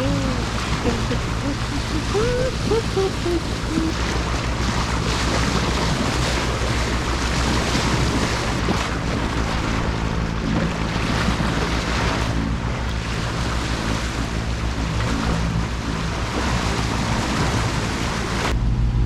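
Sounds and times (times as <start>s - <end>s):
boat engine running: 0.0s - 19.0s
water rushing along hull: 0.0s - 19.0s
wind buffeting microphone: 0.0s - 19.0s.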